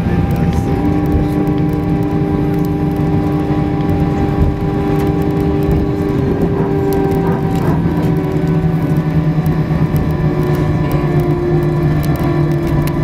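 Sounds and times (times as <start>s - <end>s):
jet engines humming: 0.0s - 13.0s
steady whining tones: 0.0s - 13.0s
wheels rumbling on runway: 0.0s - 13.0s.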